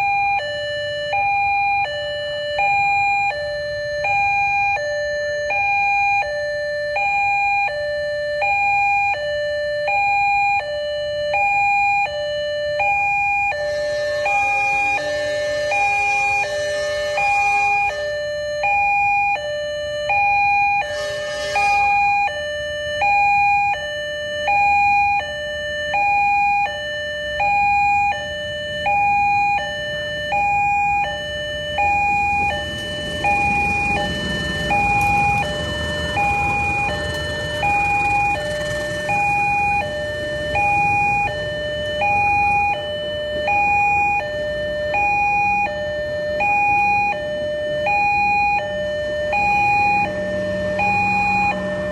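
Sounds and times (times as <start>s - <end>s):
two-tone crossing warning siren: 0.0s - 51.9s.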